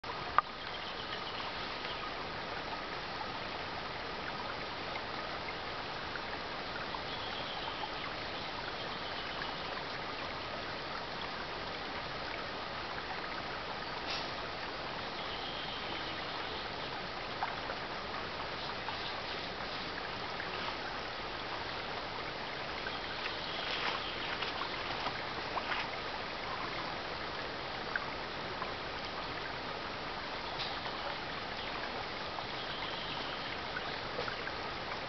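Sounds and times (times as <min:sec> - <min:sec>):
stream babbling over stones: 0:00.0 - 0:35.0.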